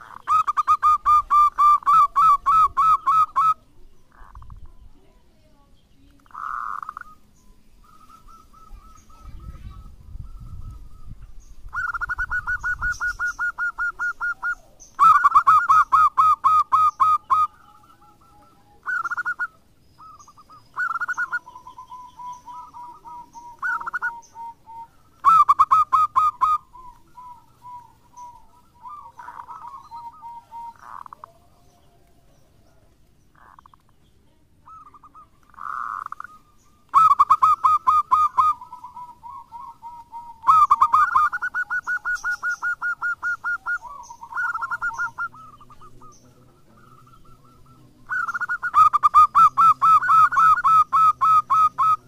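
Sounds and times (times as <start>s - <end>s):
dove cooing song: 0.0s - 5.2s, 6.0s - 34.0s, 34.6s - 52.0s.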